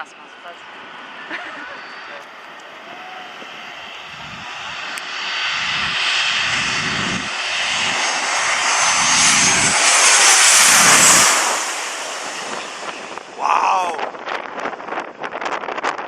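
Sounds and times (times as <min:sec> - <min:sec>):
airplane engine roar with whine: 0:00.0 - 0:16.0.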